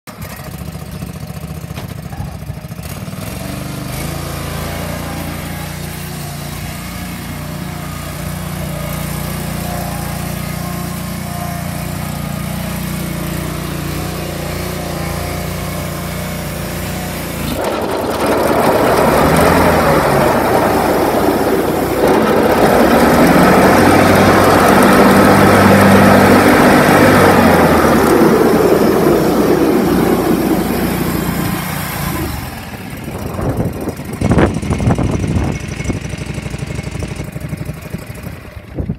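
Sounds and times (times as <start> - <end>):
lawn tractor engine idling: 0.1 - 38.9.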